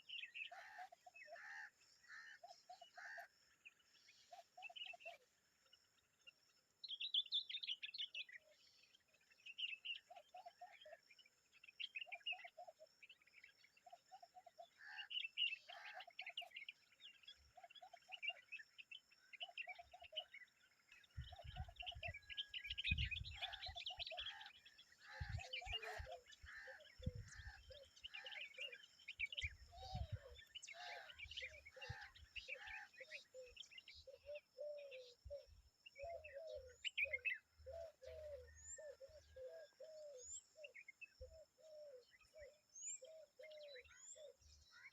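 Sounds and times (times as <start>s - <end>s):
birds chattering and twittering: 0.0s - 44.9s.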